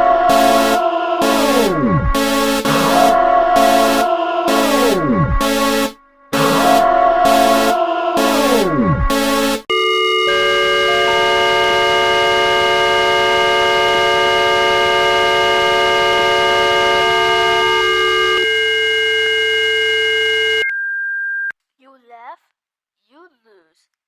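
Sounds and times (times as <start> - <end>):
emergency alert attention tone: 0.0 - 21.5.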